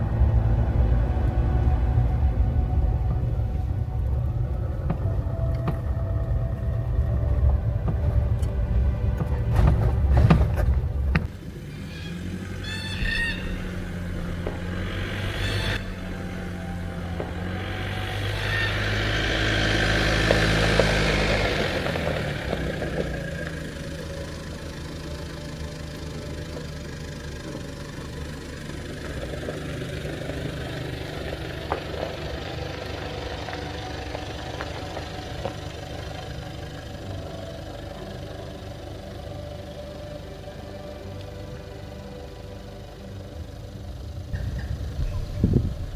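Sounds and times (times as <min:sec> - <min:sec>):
rushing noise: 0:00.0 - 0:37.6
engine idling: 0:00.0 - 0:45.9.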